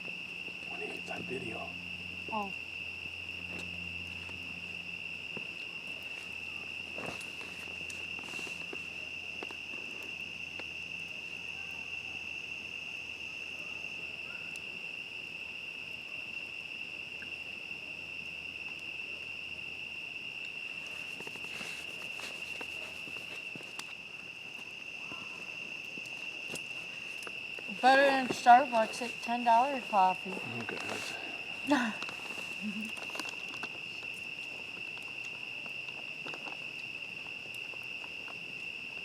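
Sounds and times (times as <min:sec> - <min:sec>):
crickets trilling: 0:00.0 - 0:39.0
campfire crackling and popping: 0:00.1 - 0:11.4, 0:14.5 - 0:39.0.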